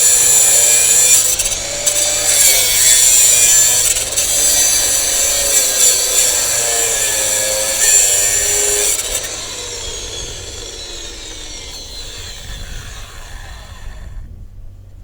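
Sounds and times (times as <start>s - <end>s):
angle grinder cutting steel: 0.0s - 14.2s
grinder disc spinning down: 0.0s - 14.2s.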